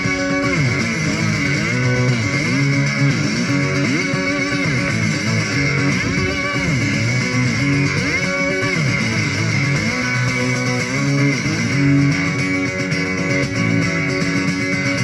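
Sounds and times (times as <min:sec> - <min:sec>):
acoustic guitar through speakers: 0:00.0 - 0:15.0.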